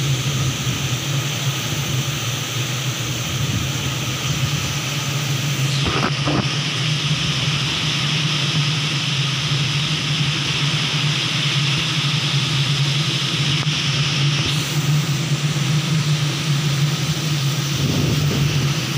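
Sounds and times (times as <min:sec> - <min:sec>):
low drone: 0:00.0 - 0:18.9.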